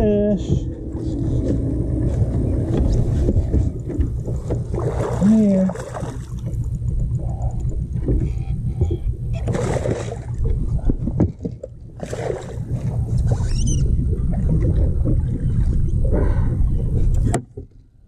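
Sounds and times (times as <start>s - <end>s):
steady low rumble: 0.0s - 18.0s
water splashing beside boat: 0.0s - 18.0s.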